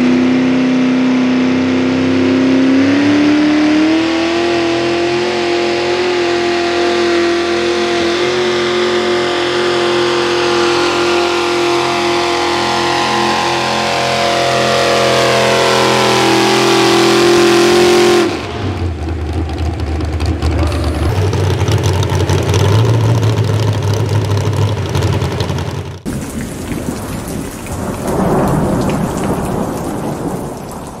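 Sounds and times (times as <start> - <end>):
truck engine at high revs: 0.0 - 30.4.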